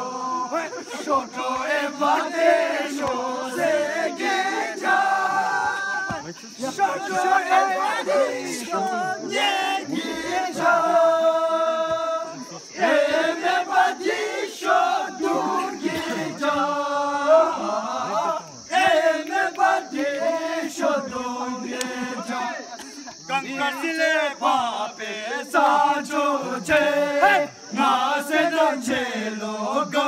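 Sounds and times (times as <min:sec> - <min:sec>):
men singing a chant: 0:00.0 - 0:30.0.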